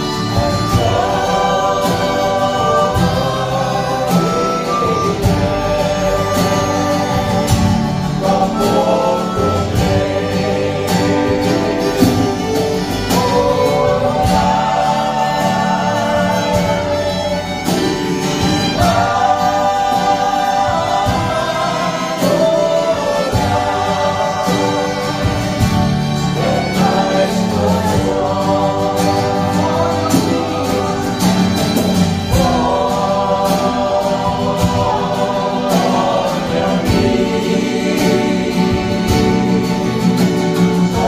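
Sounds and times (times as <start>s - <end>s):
acoustic guitar: 0.0s - 41.0s
cajon beat: 0.0s - 41.0s
violin: 0.0s - 41.0s
voices singing together: 0.0s - 41.0s.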